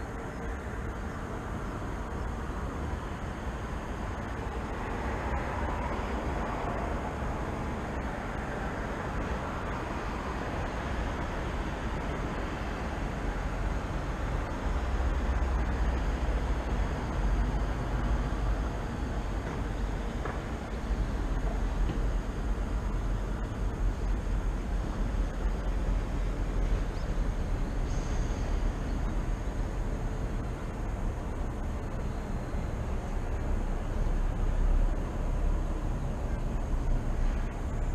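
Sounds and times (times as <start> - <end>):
road traffic rumble: 0.0 - 37.9.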